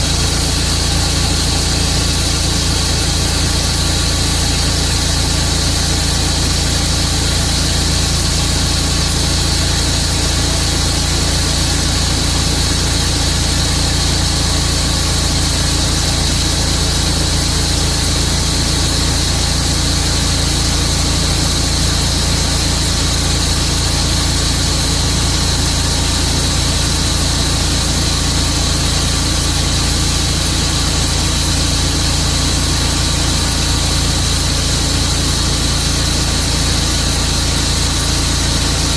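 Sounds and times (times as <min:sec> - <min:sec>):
constant high whine: 0:00.0 - 0:38.9.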